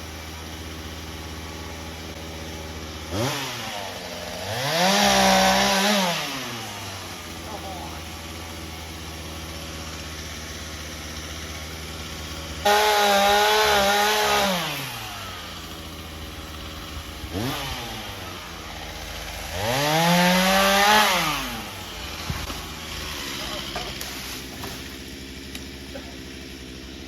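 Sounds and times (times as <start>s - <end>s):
chainsaw idling and revving: 0.0s - 27.0s.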